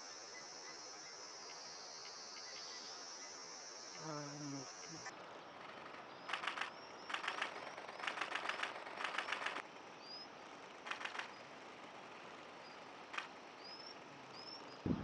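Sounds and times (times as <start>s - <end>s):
birds rattling trills: 0.0s - 11.6s, 12.5s - 15.0s.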